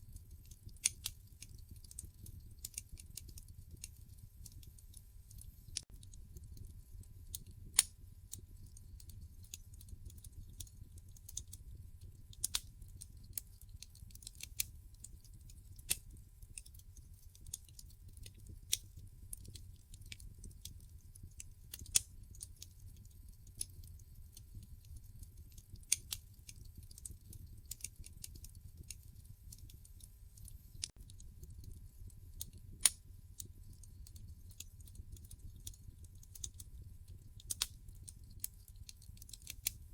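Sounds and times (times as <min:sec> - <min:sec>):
logs crackling and popping: 0:00.1 - 0:39.9
low rumble of flames: 0:00.1 - 0:39.9.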